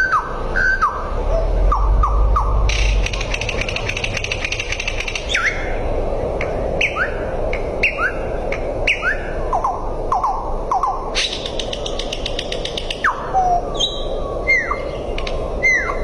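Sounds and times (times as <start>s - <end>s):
bird chirping: 0.0s - 5.8s, 6.8s - 16.0s.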